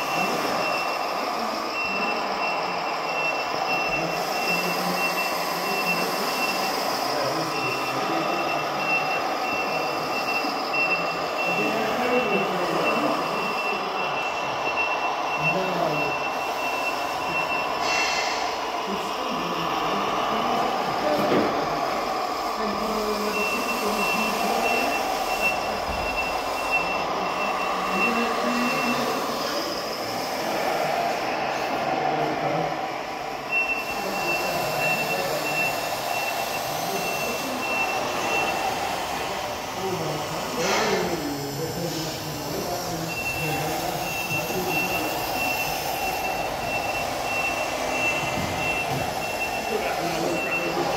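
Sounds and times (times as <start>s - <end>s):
electric model motors running: 0.0s - 50.9s
faint voices: 0.0s - 50.9s
thin high whine: 0.0s - 50.9s.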